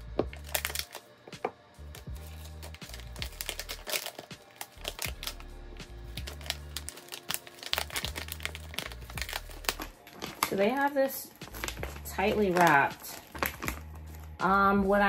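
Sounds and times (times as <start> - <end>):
background music with bass: 0.0 - 10.5, 11.4 - 15.0
plastic wrapping crinkling: 0.0 - 14.5
scissors cutting plastic: 0.2 - 14.4.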